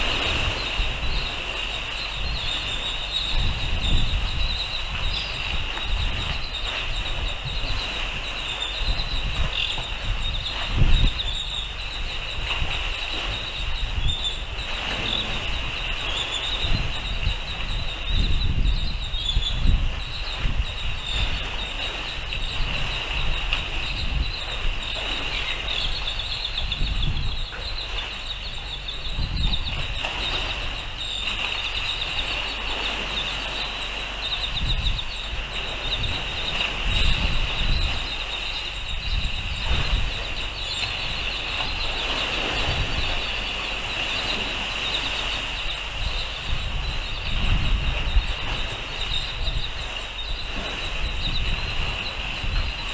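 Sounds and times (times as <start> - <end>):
high-pitched fluttering hiss: 0.0 - 52.9
wind buffeting microphone: 0.0 - 52.9.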